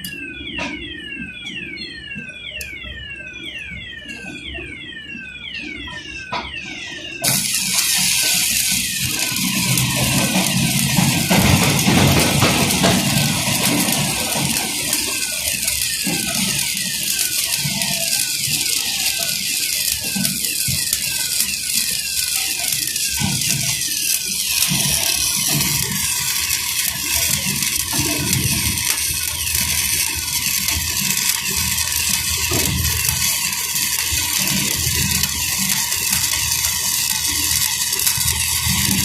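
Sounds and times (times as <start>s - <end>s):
welding arc crackling hiss: 7.2s - 39.0s.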